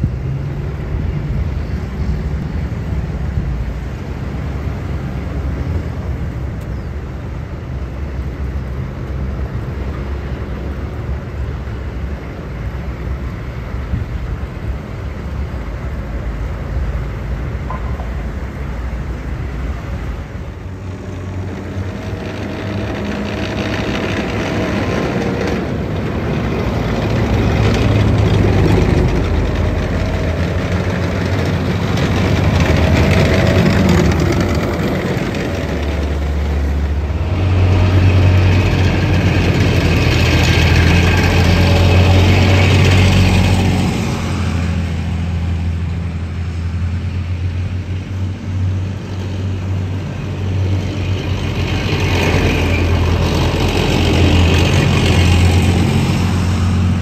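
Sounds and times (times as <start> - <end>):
diesel engines driving past: 0.0 - 57.0
tracked armoured vehicles: 0.0 - 57.0.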